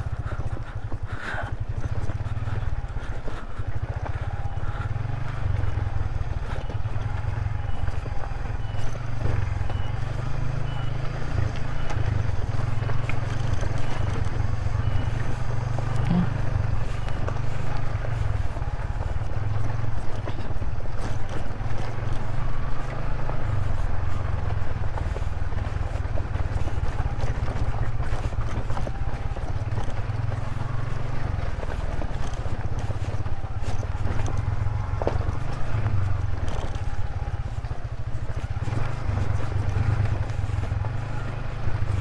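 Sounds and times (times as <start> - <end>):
motorcycle engine rumbling: 0.0 - 42.0.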